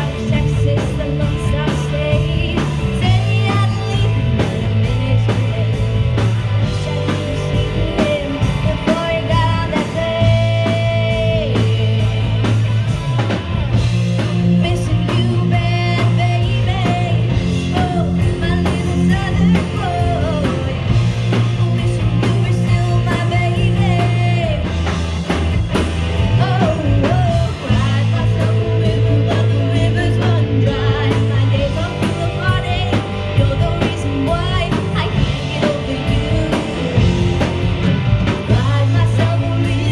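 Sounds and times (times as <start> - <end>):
woman singing: 0.0 - 6.0, 6.6 - 12.5, 14.4 - 24.8, 26.3 - 37.3, 38.4 - 39.9
drum kit: 0.0 - 39.9
electric guitars: 0.0 - 39.9.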